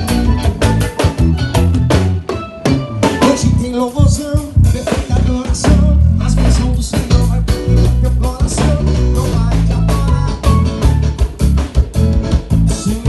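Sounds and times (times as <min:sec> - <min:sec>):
bass line: 0:00.0 - 0:13.0
drum kit beat: 0:00.0 - 0:13.0
guitar: 0:00.0 - 0:13.0
live band playing: 0:00.0 - 0:13.0.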